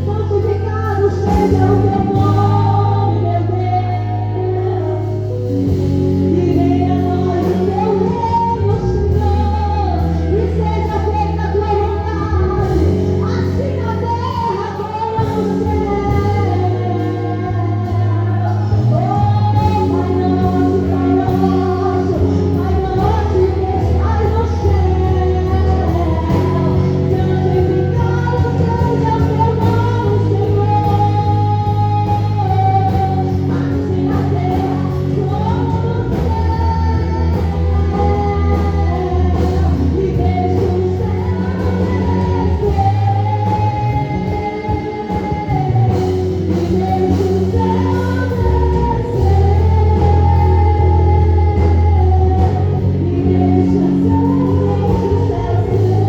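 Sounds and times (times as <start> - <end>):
band with bass and drums: 0.0 - 56.0
person singing: 0.0 - 56.0.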